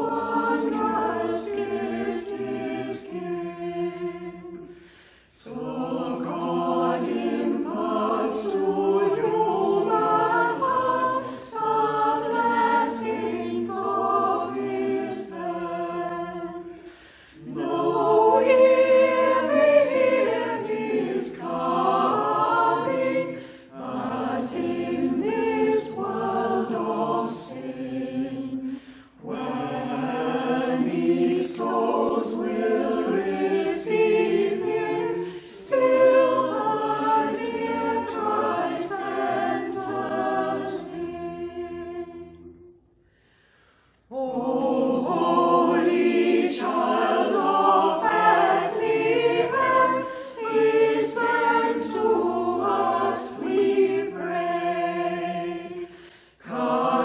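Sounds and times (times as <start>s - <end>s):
small choir singing unaccompanied: 0.0s - 43.0s, 44.1s - 57.0s.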